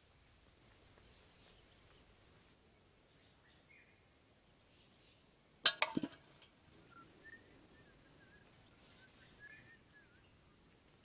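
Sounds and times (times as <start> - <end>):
faint bird chirps: 0.7 - 5.5, 6.5 - 11.0.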